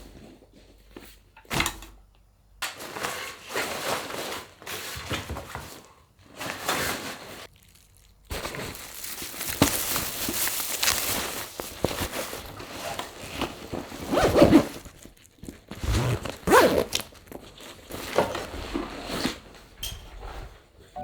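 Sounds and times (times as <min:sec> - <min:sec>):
rustling and crinkling: 0:02.7 - 0:21.0.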